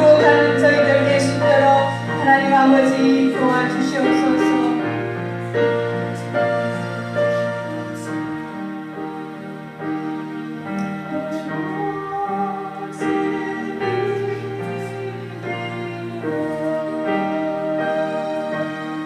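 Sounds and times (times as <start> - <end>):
slow keyboard chords: 0.0 - 19.0.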